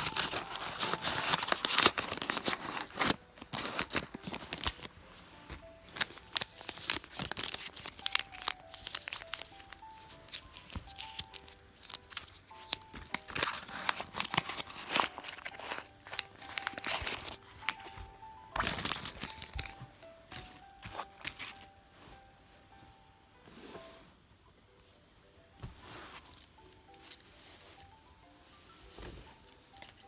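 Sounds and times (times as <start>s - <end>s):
plastic packaging crinkling: 0.0s - 21.8s, 26.1s - 28.1s, 29.3s - 30.0s
soft background music: 0.0s - 30.0s.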